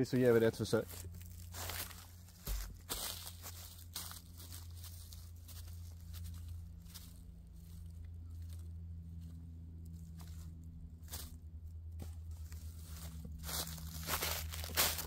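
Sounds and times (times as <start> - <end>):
low outdoor rumble: 0.0 - 15.0
dry leaves rustling underfoot: 0.1 - 15.0.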